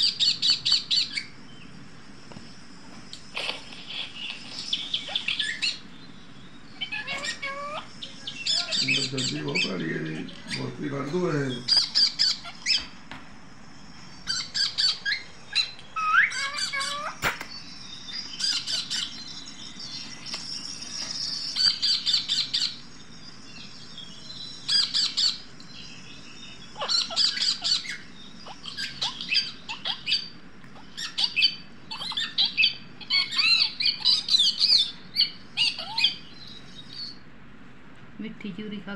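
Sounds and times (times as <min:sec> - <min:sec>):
parakeets squawking: 0:00.0 - 0:37.4.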